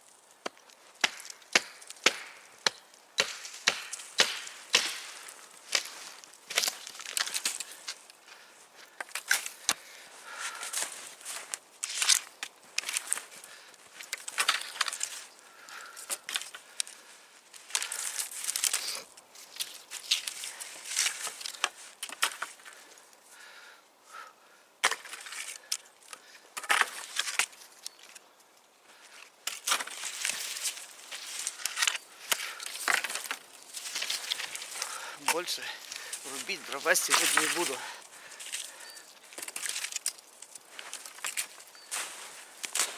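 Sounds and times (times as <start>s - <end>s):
crunchy rustling: 0.0s - 23.5s, 25.0s - 42.9s
sticks cracking and snapping: 0.3s - 8.2s, 8.8s - 23.1s, 29.2s - 42.9s.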